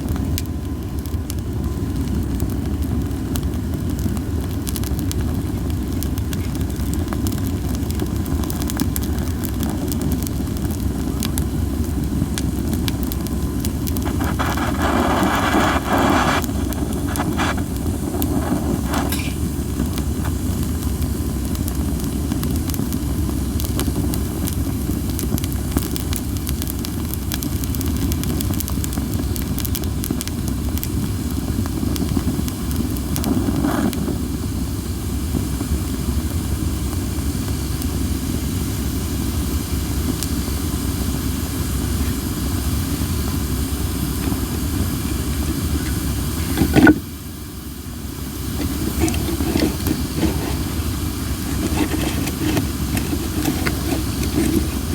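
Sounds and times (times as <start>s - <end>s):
campfire crackling and popping: 0.0s - 54.9s
steam hissing from firewood: 0.0s - 54.9s.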